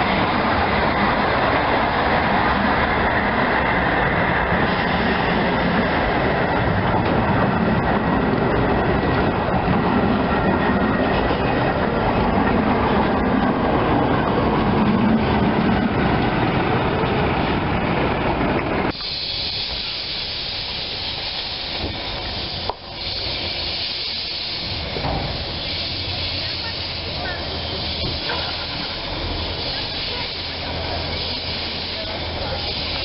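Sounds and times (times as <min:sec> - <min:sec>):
steam hissing: 0:00.0 - 0:15.4, 0:18.8 - 0:33.0
train wheels rumbling on rails: 0:00.0 - 0:33.0.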